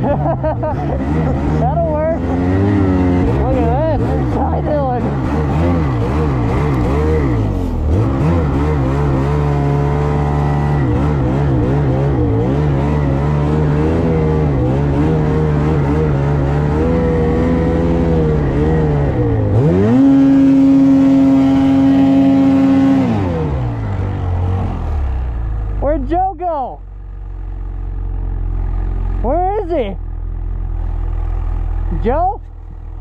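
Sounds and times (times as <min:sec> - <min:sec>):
snowmobile engine revving: 0:00.0 - 0:26.7, 0:28.5 - 0:30.0.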